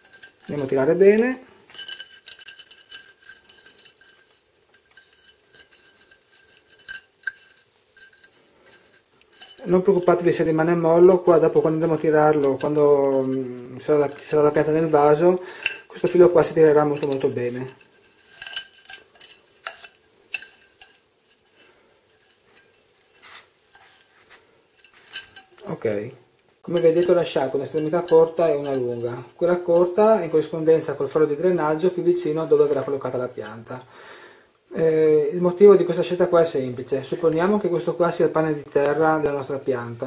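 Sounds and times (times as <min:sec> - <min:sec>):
wire scratching on ceramic pot: 0:00.0 - 0:26.0, 0:26.6 - 0:33.9, 0:34.8 - 0:40.0.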